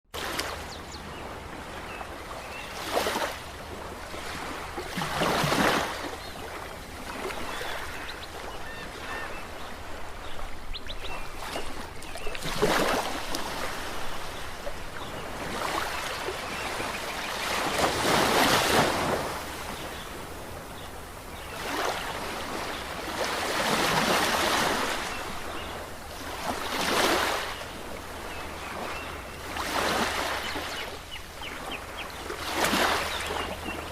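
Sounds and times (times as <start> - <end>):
ocean waves breaking on shore: 0.1 - 33.9.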